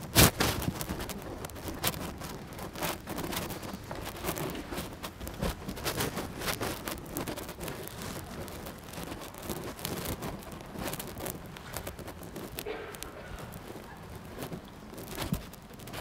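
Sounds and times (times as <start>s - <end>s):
paper rustling: 0.0s - 16.0s
steady hiss: 0.0s - 16.0s.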